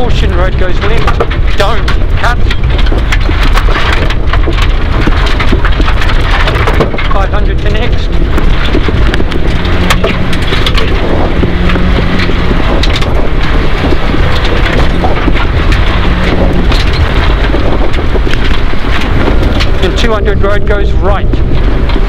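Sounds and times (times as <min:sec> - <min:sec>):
stones striking the car: 0:00.0 - 0:20.8
rally car engine running: 0:00.0 - 0:22.0
tyre and gravel noise: 0:00.0 - 0:22.0.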